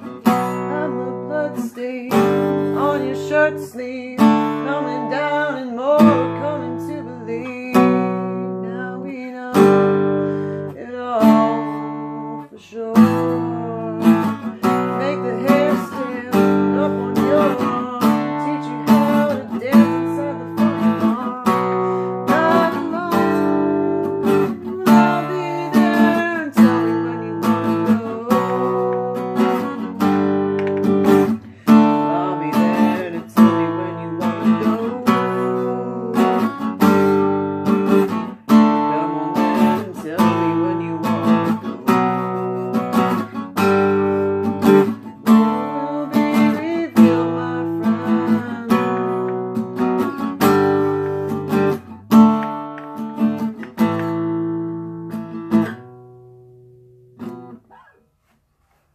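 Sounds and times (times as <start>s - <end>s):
acoustic guitar strumming chords: 0.0s - 58.4s.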